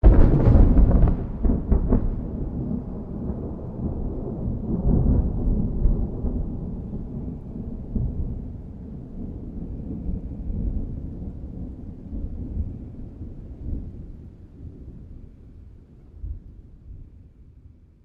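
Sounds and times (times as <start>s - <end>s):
rolling thunder rumble: 0.0s - 17.6s.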